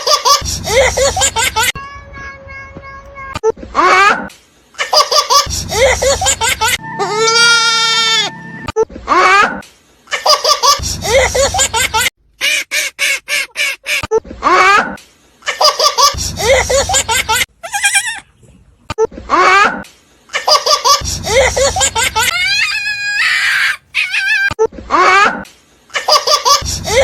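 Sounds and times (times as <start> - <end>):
young child laughing: 0.0 - 1.8, 3.7 - 7.4, 9.0 - 18.5, 19.2 - 27.0.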